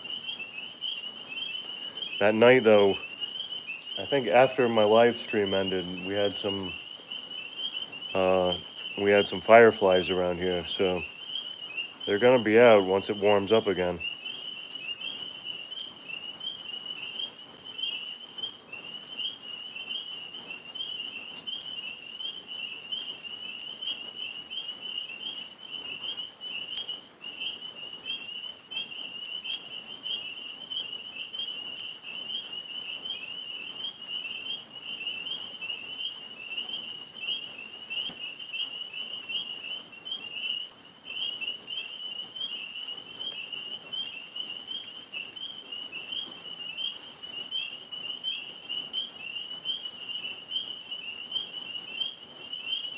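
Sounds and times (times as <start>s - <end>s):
tree frogs trilling: 0.0s - 52.9s.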